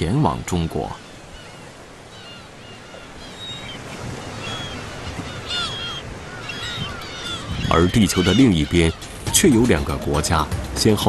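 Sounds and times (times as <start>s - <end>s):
gulls calling: 0.0s - 11.0s
sea surf washing: 0.0s - 11.0s.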